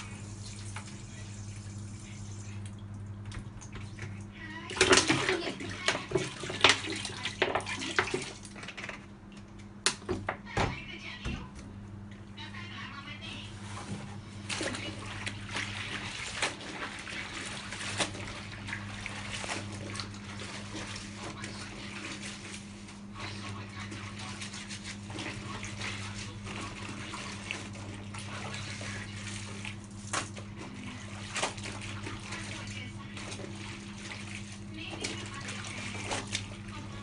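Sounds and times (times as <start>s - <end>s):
water sloshing and splashing: 0.0s - 9.6s, 13.5s - 37.0s
steady low hum: 0.0s - 37.0s.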